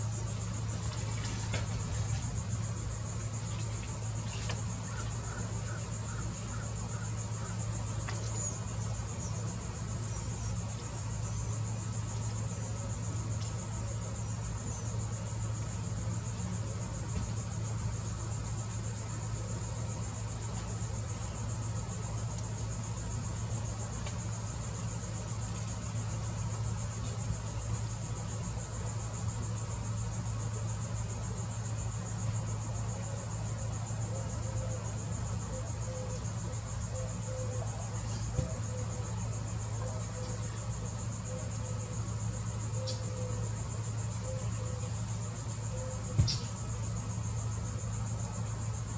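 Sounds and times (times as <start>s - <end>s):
insect chorus buzzing trill: 0.0s - 48.9s.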